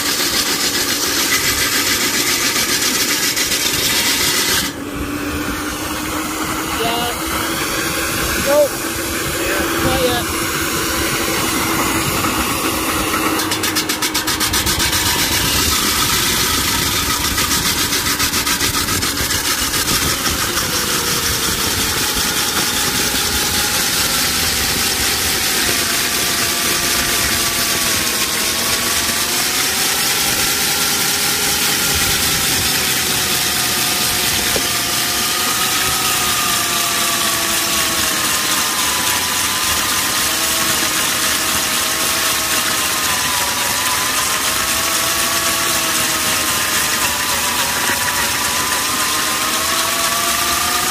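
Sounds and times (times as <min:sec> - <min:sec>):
core drill motor whine: 0:00.0 - 0:50.9.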